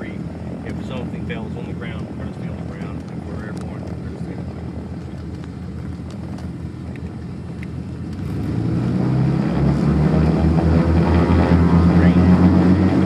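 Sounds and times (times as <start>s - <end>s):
aircraft engines and propellers droning: 0.0s - 13.0s.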